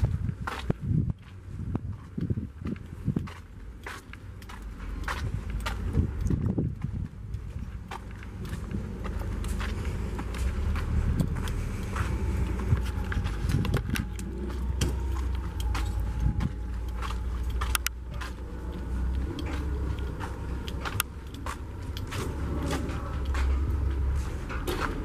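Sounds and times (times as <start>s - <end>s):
footsteps: 0.0s - 25.0s
wind buffeting microphone: 0.0s - 25.0s.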